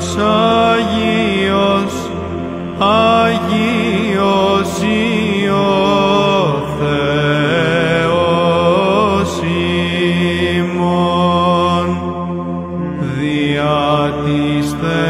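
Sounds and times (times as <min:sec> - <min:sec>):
man chanting a hymn: 0:00.0 - 0:15.0
steady low drone: 0:00.0 - 0:15.0.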